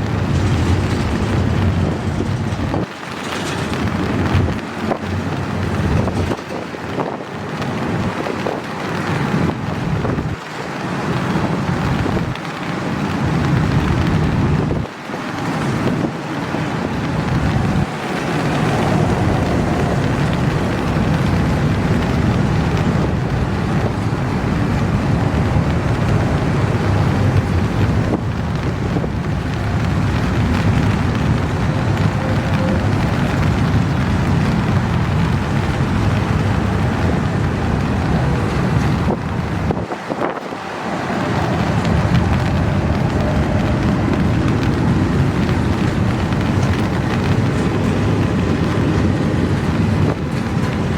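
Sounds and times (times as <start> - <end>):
freight train wheels rumbling: 0.0 - 50.9
wind buffeting microphone: 0.0 - 50.9.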